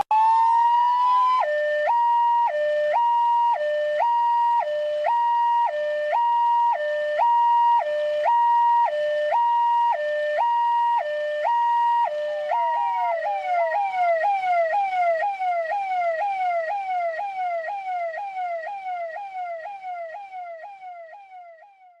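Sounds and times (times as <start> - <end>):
electronic police siren: 0.0 - 22.0.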